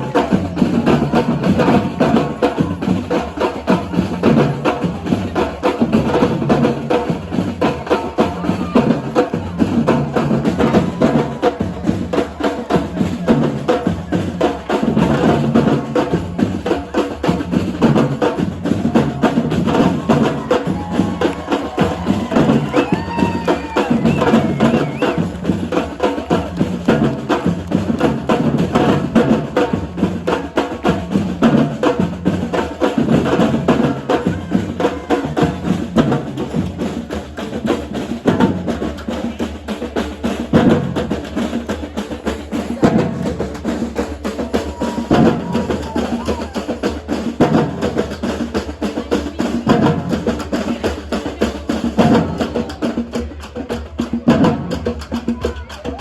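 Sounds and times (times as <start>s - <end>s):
bass drums: 0.0s - 50.9s, 51.8s - 55.9s
snare drums: 0.0s - 56.0s.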